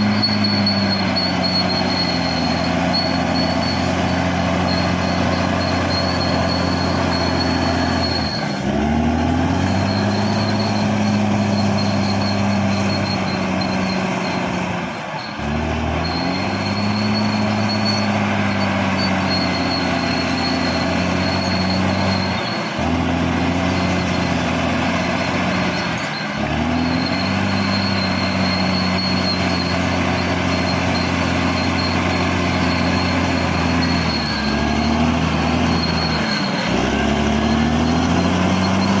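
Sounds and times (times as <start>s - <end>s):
bulldozer diesel engine under load: 0.0s - 39.0s.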